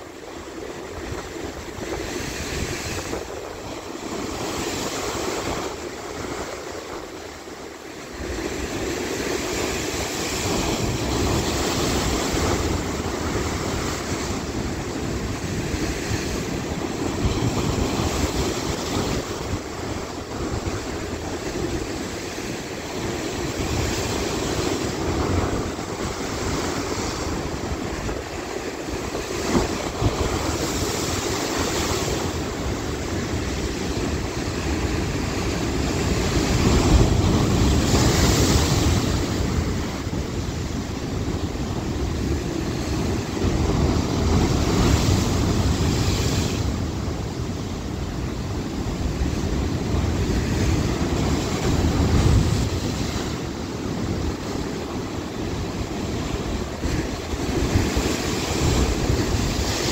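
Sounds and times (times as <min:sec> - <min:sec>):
surf breaking over rocks: 0:00.0 - 0:59.9.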